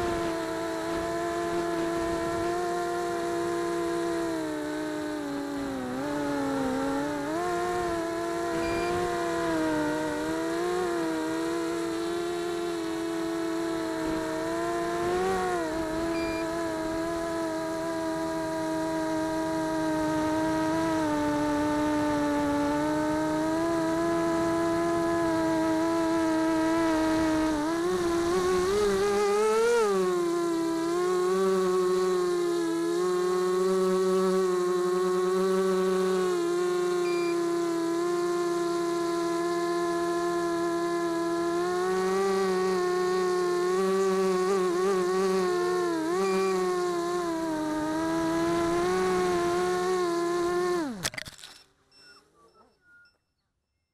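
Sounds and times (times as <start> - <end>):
quadcopter motors whining: 0.0 - 52.2.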